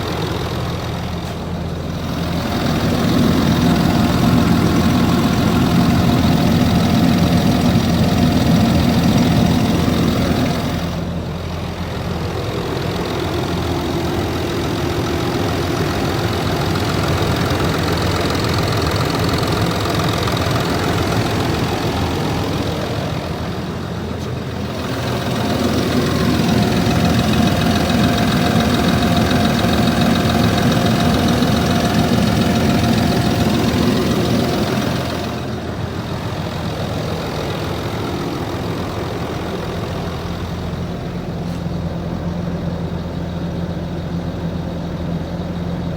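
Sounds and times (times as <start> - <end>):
diesel engine idling with knock: 0.0 - 45.9.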